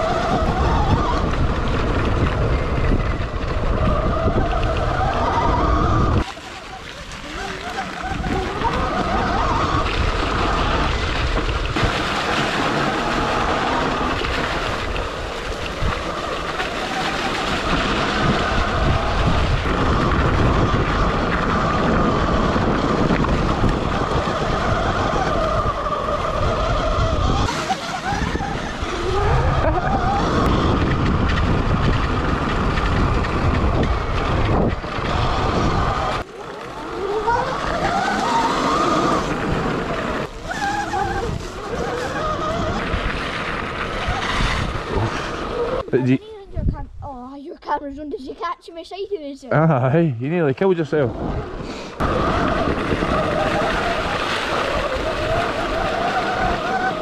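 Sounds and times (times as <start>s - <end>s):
steady rumble: 0.0s - 48.1s.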